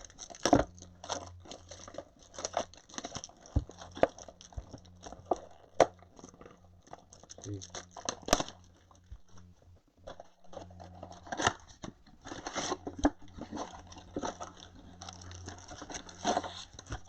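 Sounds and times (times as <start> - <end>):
low electrical hum: 0.0 - 17.0
wrappers and cardboard tearing: 0.0 - 17.0.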